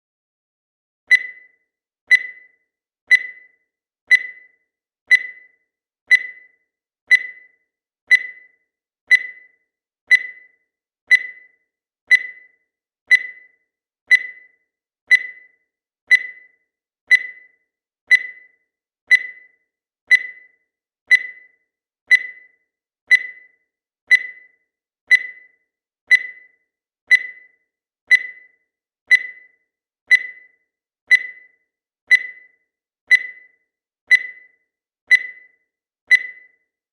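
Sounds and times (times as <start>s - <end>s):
digital timer beeping: 1.1s - 36.9s.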